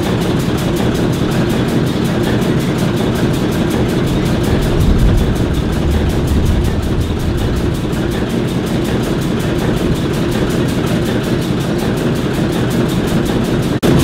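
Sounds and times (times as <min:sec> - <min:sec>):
diesel locomotives idling: 0:00.0 - 0:14.0.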